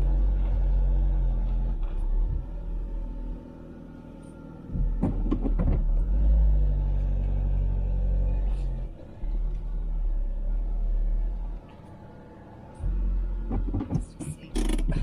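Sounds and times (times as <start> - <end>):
van engine rumbling: 0.0 - 15.0.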